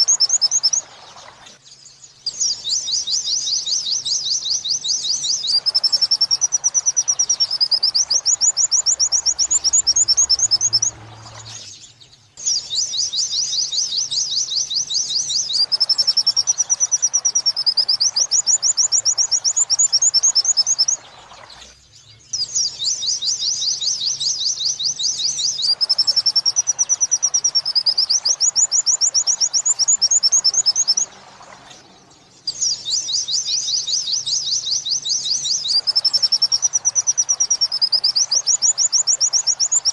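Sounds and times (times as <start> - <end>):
bird chirping and whistling: 0.0 - 0.8, 2.2 - 21.2, 22.3 - 31.2, 32.4 - 39.9.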